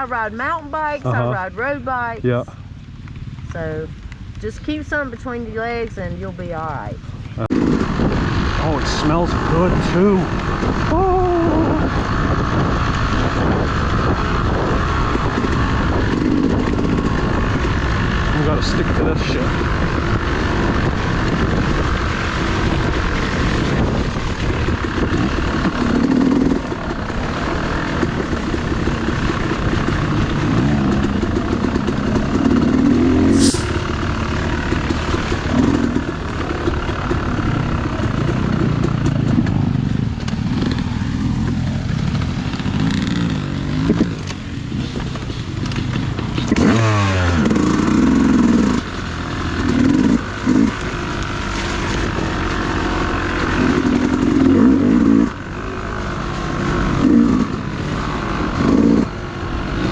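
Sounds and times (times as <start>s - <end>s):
dirt bike engine revving: 3.6s - 59.9s.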